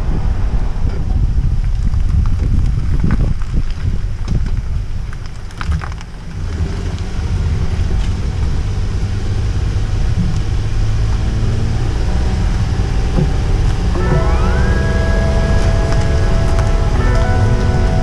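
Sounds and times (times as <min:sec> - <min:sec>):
van engine and road rumble: 0:00.0 - 0:18.0.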